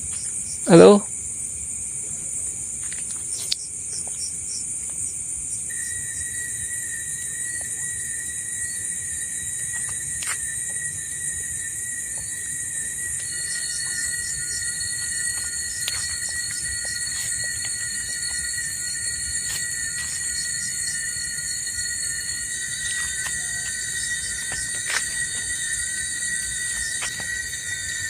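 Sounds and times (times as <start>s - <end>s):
crickets trilling: 0.0s - 28.0s
low insect drone: 0.0s - 28.0s.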